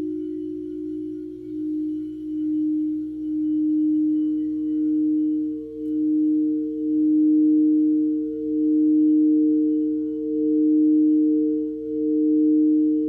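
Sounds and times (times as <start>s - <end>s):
singing bowl low tone: 0.0s - 13.0s.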